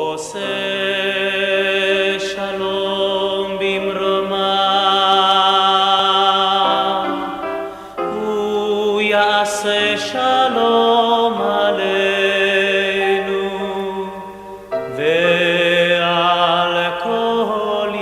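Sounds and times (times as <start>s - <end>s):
slow chant-like singing: 0.0s - 18.0s.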